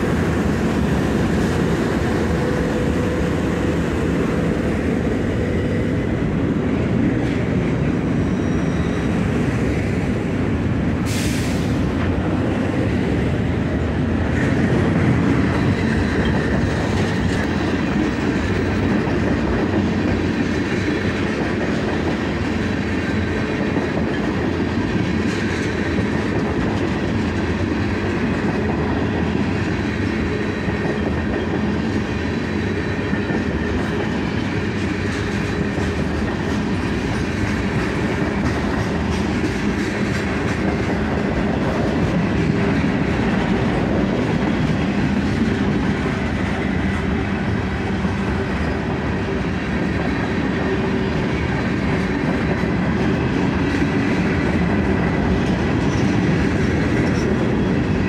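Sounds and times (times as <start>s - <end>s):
commuter train passing: 0.0s - 58.0s
freight train wheel rumble: 0.0s - 58.0s
train wheels clickety-clack: 0.0s - 58.0s.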